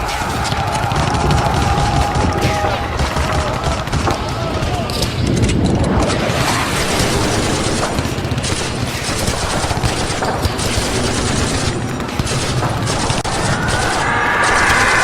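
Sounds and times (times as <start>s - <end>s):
dense battle gunfire: 0.0s - 15.0s.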